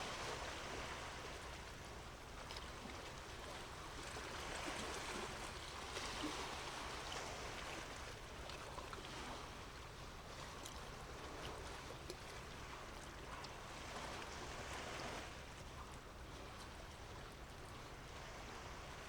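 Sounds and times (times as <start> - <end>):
moving water: 0.0 - 19.0.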